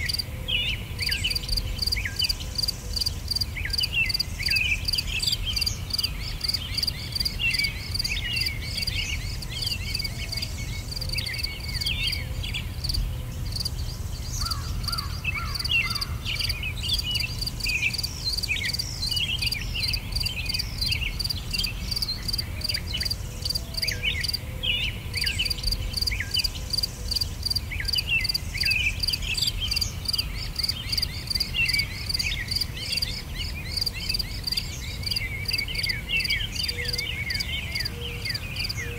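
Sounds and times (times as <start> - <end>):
insects chirping: 0.0 - 0.3, 1.0 - 24.4, 25.2 - 38.9
birds chirping and whistling: 0.0 - 38.9.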